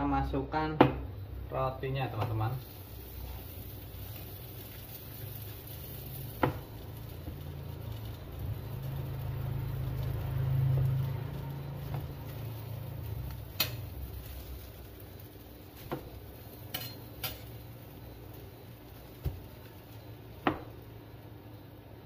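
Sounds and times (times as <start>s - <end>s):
gas burner rumble: 0.0s - 22.0s.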